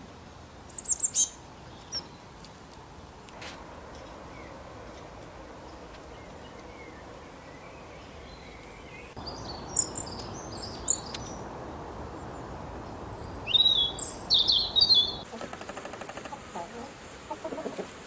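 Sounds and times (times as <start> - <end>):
outdoor background hiss: 0.0 - 18.0
birds chirping: 0.7 - 2.3, 3.3 - 16.3.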